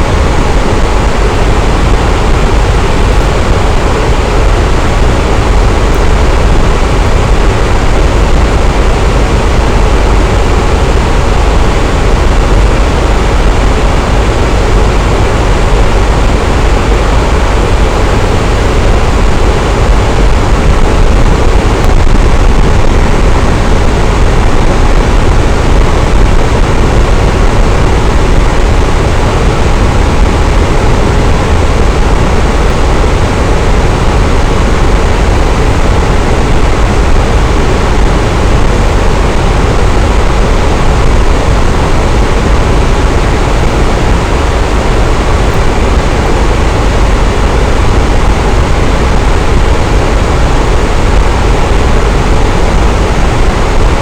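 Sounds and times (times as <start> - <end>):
electric fan whooshing: 0.0 - 54.0.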